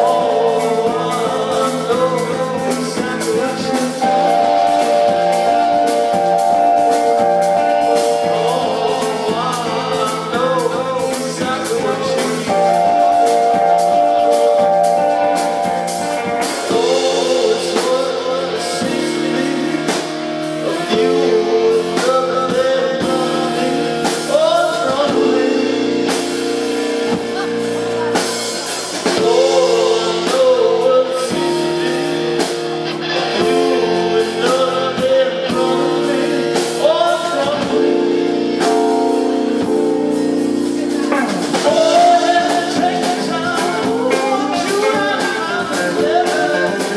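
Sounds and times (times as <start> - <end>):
drum kit: 0.0 - 46.9
electric guitars: 0.0 - 46.9
keyboard holding long chords: 0.0 - 46.9
man singing: 0.0 - 46.9.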